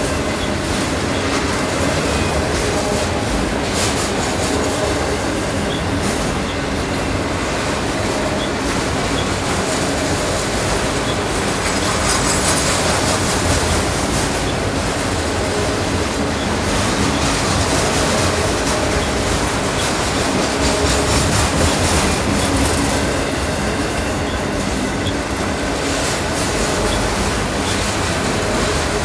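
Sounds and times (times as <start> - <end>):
freight train wheels rumbling on rails: 0.0 - 29.0.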